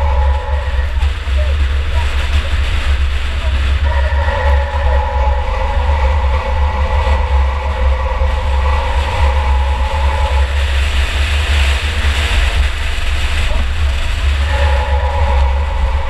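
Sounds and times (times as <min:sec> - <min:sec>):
race car engine rumbling: 0:00.0 - 0:16.0
steady whine: 0:00.0 - 0:16.0.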